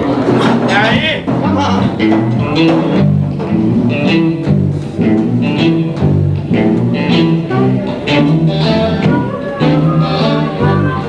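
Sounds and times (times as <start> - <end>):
blues band playing instrumental: 0.0 - 11.0.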